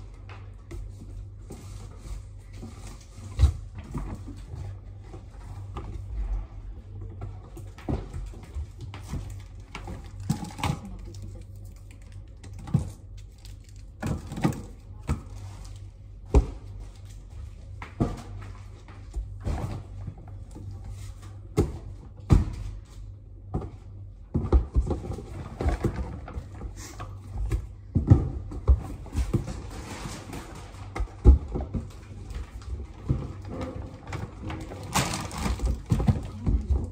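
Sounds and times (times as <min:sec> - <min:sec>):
items knocking and thudding: 0:00.0 - 0:11.2, 0:13.9 - 0:15.6, 0:16.2 - 0:36.9
steady low hum: 0:00.0 - 0:36.9.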